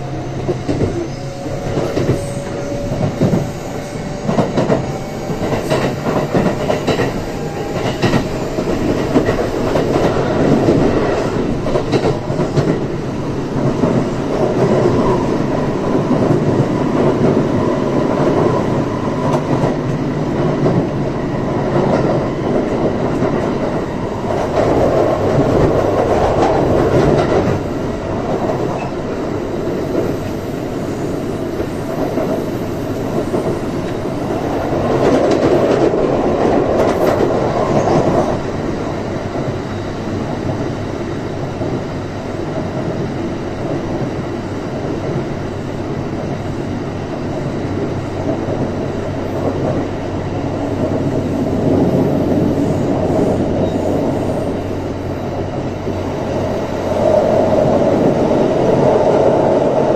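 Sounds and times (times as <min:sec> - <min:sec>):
clickety-clack over rail joints: 0:00.0 - 0:59.9
train wheels rumbling on rail: 0:00.0 - 0:59.9.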